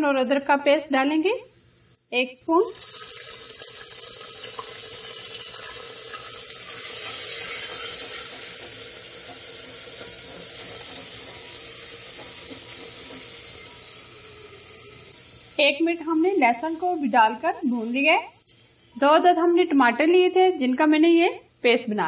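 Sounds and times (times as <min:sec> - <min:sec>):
onions sizzling in hot fat: 0:00.0 - 0:22.0.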